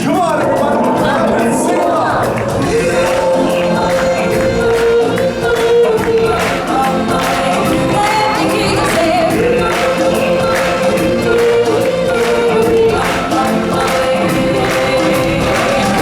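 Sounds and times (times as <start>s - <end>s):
choir singing: 0.0s - 16.0s
instrumental backing: 0.0s - 16.0s.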